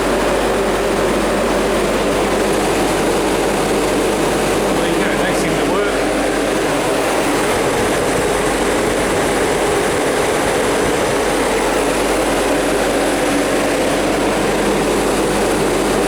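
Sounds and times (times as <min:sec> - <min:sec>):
refrigeration fans running: 0:00.0 - 0:16.0.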